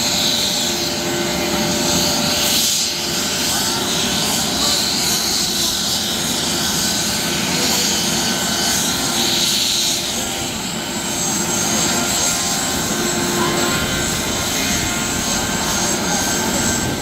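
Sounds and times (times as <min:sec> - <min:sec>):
helicopter rotor noise: 0:00.0 - 0:17.0
high turbine whine: 0:00.0 - 0:17.0.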